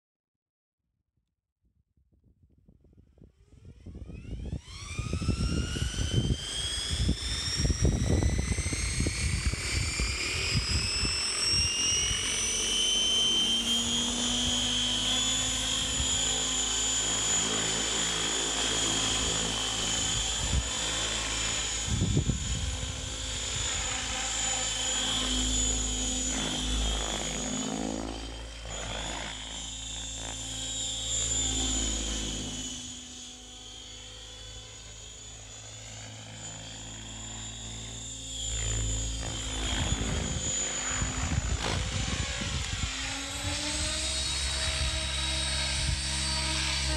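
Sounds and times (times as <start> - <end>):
rc helicopter motor whine: 3.0 - 46.9.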